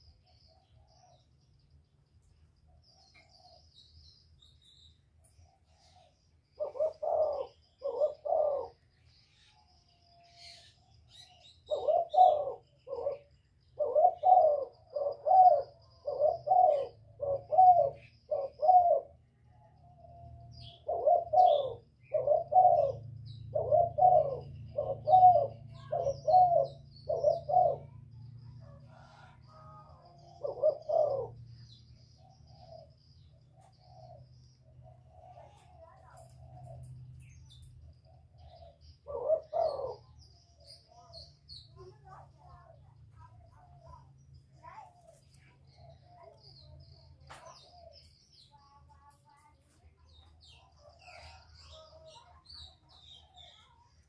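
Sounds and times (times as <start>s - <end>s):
small birds chirping: 0.0s - 54.0s
dove cooing: 5.4s - 9.5s, 10.3s - 54.0s.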